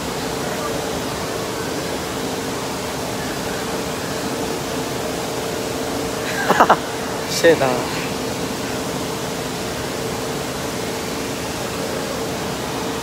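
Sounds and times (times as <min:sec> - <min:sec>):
air handling roar: 0:00.0 - 0:13.0
faint steady hum: 0:00.0 - 0:13.0
running water: 0:00.0 - 0:13.0.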